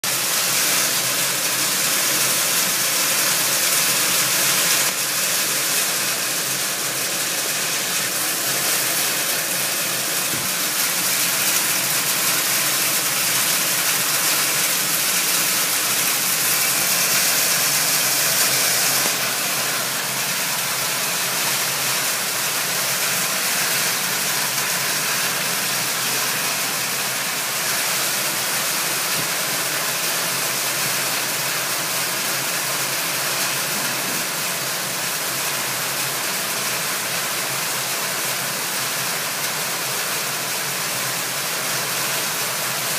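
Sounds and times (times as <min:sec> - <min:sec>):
heavy rain and hail falling: 0:00.0 - 0:42.9.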